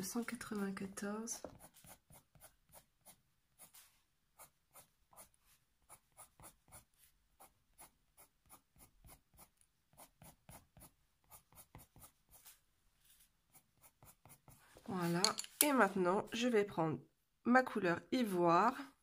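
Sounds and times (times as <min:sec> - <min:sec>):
pencil scratching on paper: 0:00.0 - 0:16.5.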